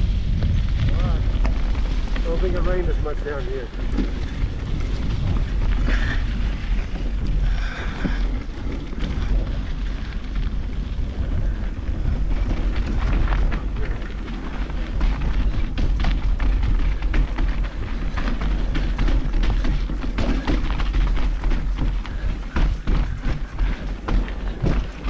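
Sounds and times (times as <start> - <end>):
bike clicking and rattling: 0.0 - 25.0
wind buffeting microphone: 0.0 - 25.0.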